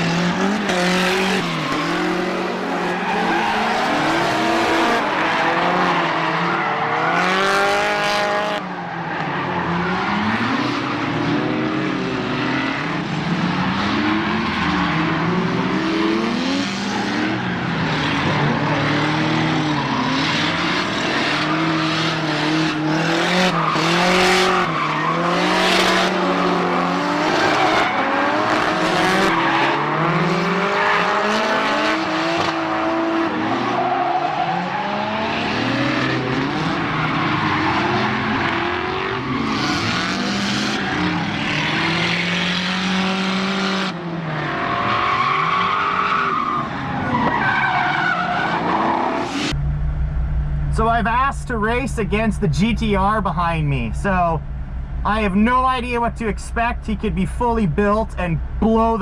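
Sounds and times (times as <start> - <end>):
tires squealing: 0.0 - 49.6
car engines revving: 0.0 - 59.0.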